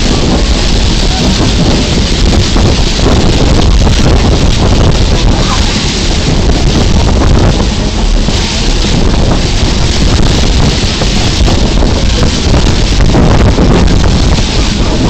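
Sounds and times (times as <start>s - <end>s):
moving train rumble: 0.0s - 15.0s
wind noise on microphone: 0.0s - 15.0s.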